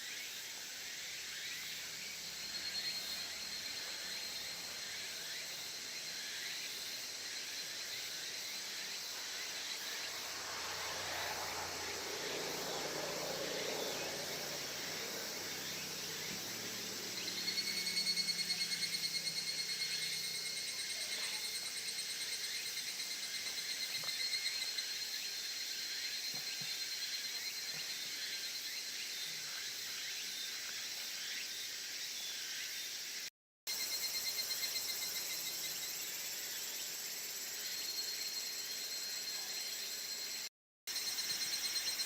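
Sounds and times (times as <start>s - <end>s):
close high pulsed insect trill: 0.0s - 42.0s
insects trilling chorus: 0.0s - 42.0s.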